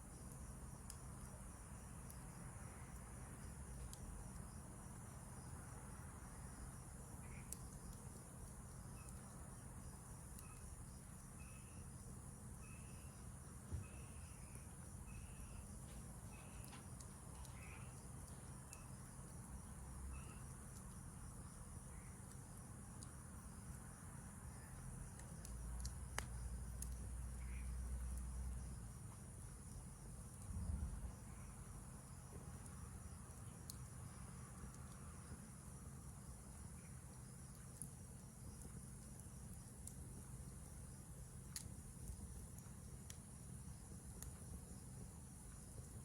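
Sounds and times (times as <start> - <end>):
campfire crackling: 0.0 - 46.0
night insects chirping: 0.0 - 46.0.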